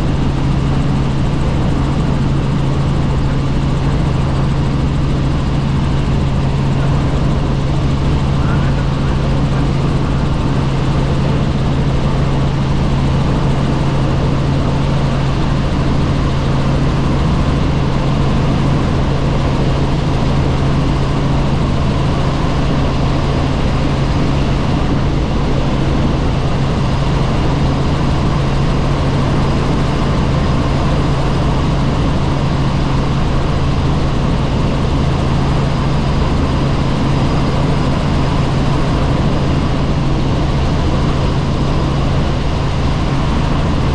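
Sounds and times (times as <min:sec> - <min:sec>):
helicopter drone from on board: 0:00.0 - 0:43.9.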